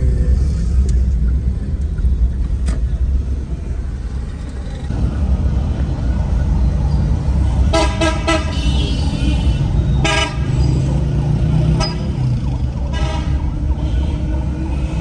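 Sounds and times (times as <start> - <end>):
vehicle driving rumble: 0.0 - 15.0.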